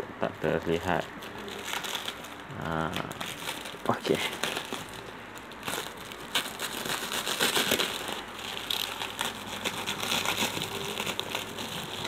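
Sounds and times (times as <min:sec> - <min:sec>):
plastic wrap crinkling and tearing: 0:00.2 - 0:12.0.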